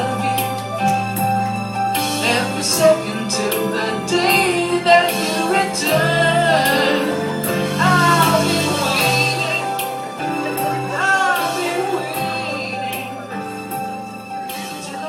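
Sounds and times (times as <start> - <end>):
person singing a melody: 0.0 - 1.1, 2.1 - 13.8.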